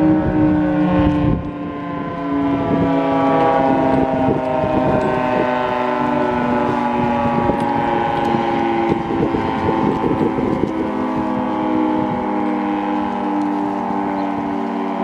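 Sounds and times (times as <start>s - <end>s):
dual-tone warning siren: 0.0s - 15.0s
wind rumbling on microphone: 0.0s - 15.0s.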